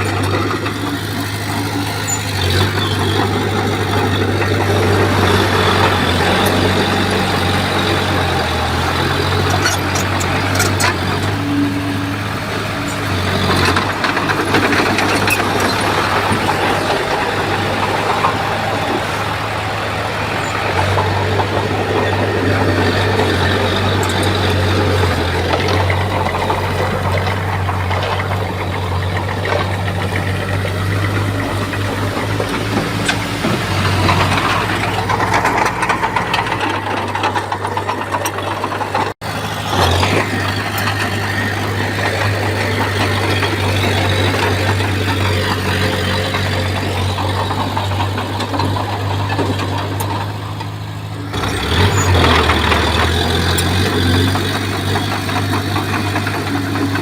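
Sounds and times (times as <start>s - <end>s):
bulldozer diesel engine: 0.0s - 57.0s
clanks of soil and stone: 0.0s - 57.0s.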